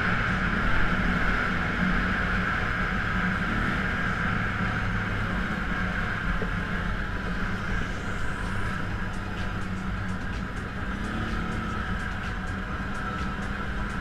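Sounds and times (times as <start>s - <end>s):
atv engine running: 0.0s - 14.0s
rushing noise: 0.0s - 14.0s.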